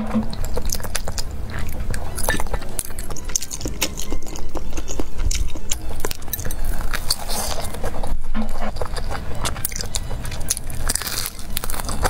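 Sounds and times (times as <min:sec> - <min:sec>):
wet chewing and lip smacking: 0:00.0 - 0:12.0.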